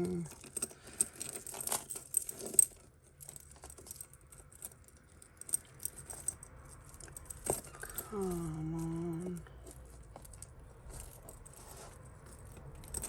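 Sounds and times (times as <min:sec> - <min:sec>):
jewellery chains and beads jangling: 0:00.0 - 0:13.0.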